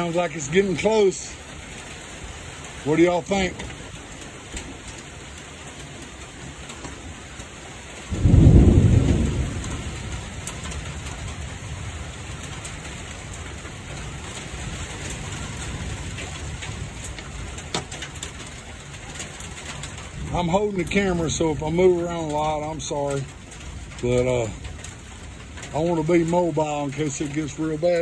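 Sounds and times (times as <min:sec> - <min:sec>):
steady rain falling: 0:00.0 - 0:28.0
thunder clap and rumble: 0:02.4 - 0:28.0.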